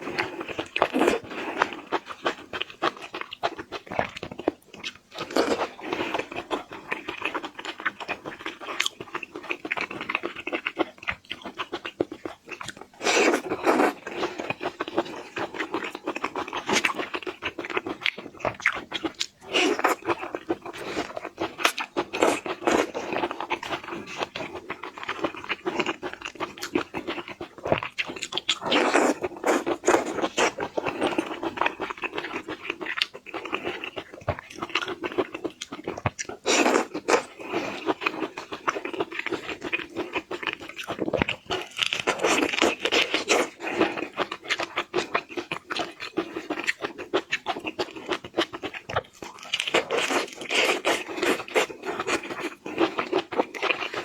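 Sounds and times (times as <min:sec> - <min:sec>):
shrimp being chewed crunchily: 0:00.0 - 0:54.0.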